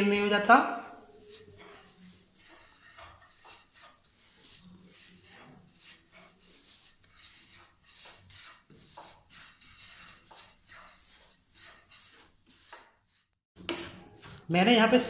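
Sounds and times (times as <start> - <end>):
wooden spatula scraping frying pan: 0.9 - 15.0.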